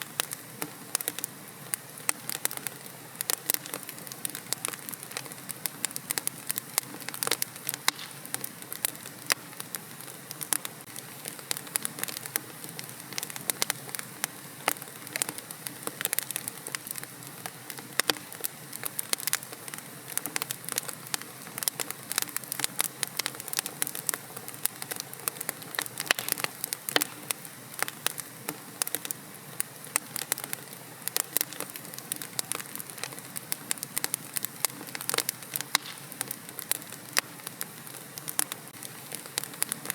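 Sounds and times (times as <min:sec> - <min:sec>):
soft hiss of flames: 0:00.0 - 0:39.9
wood fire crackling: 0:00.0 - 0:39.9.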